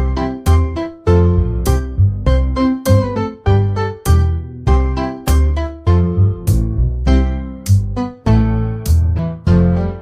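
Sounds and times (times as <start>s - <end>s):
bright piano tune: 0.0s - 10.0s.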